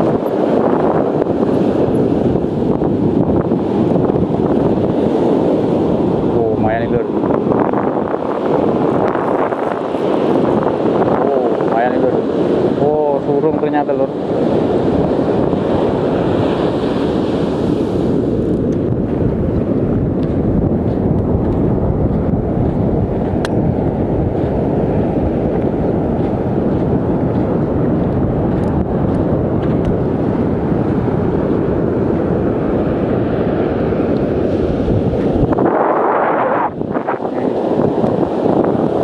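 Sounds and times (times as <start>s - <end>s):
breaking surf: 0.0s - 39.0s
wind buffeting microphone: 0.0s - 39.0s.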